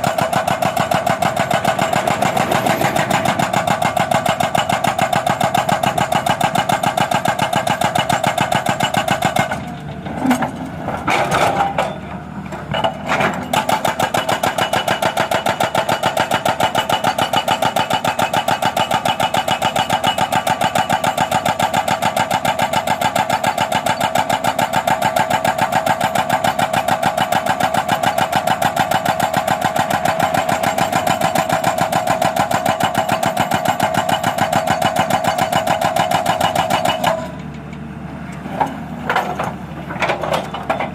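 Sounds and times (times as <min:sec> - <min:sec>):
hydraulic breaker hammer pounding: 0:00.0 - 0:09.8, 0:12.7 - 0:37.5.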